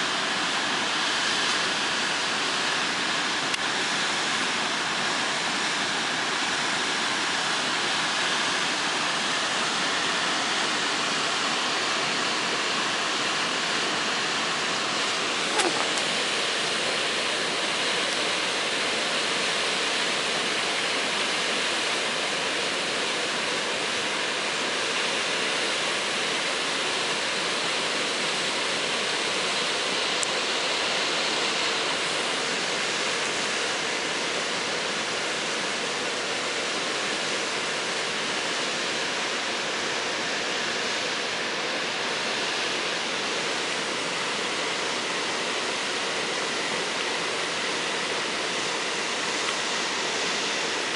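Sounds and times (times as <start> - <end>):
stream rushing over boulders: 0.0 - 50.9.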